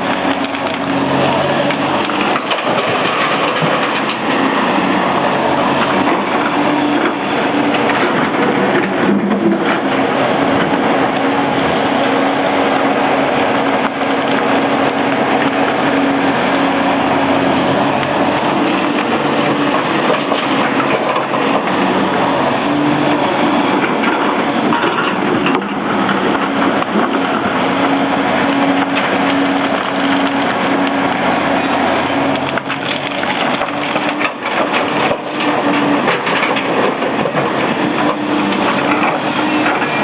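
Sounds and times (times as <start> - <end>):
excavator diesel engine under load: 0.0 - 40.0
rough crunching of work: 0.0 - 40.0.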